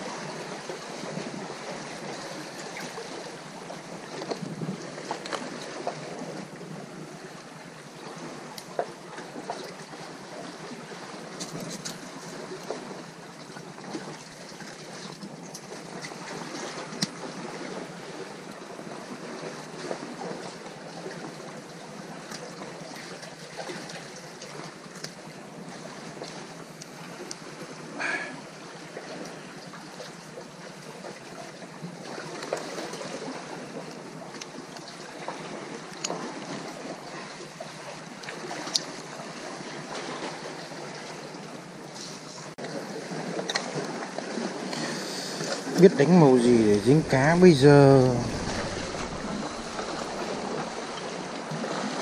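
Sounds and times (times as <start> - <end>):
sea water washing and splashing: 0.0 - 52.0.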